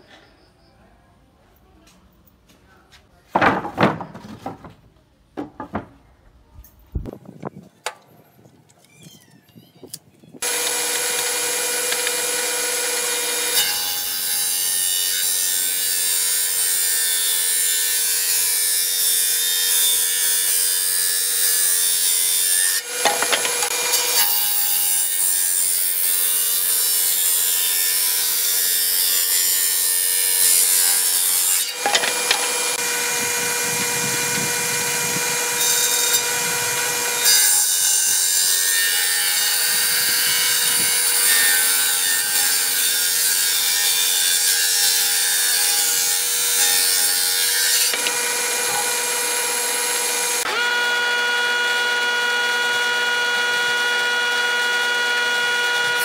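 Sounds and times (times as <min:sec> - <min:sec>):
saw cutting wood: 0:09.8 - 0:56.0
table saw running: 0:10.4 - 0:56.0.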